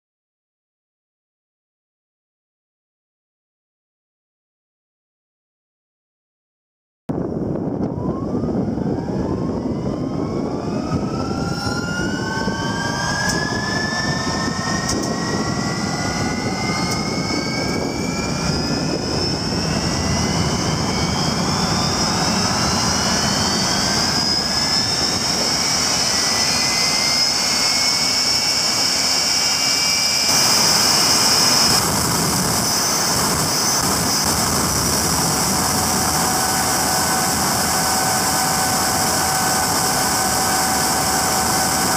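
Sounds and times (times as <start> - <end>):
turbojet engine roaring and whining: 7.1 - 41.9.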